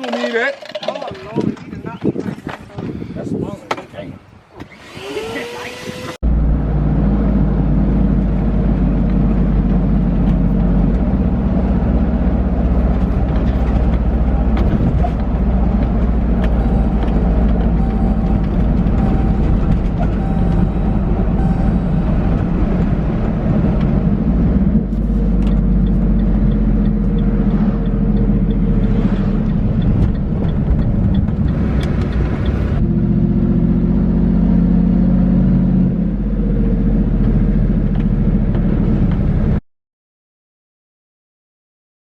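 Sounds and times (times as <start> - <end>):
motor vehicle running: 5.8 - 39.6.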